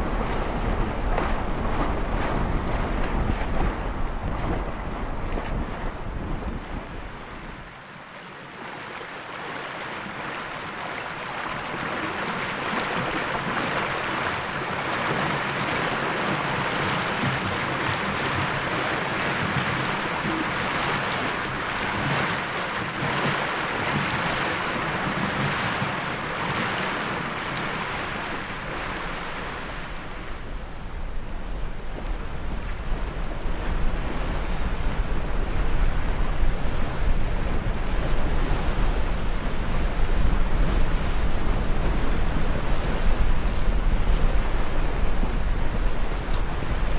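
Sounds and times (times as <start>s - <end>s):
water rushing along hull: 0.0s - 46.9s
wind: 0.0s - 46.9s.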